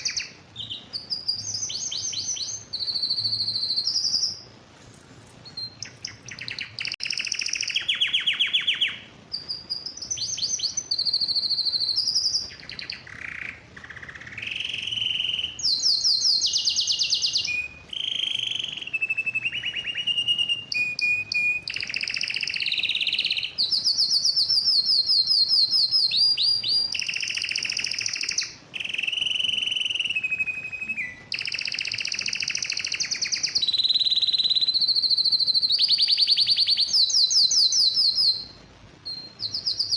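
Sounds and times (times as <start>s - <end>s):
canary singing trills: 0.0s - 4.6s, 5.4s - 39.9s.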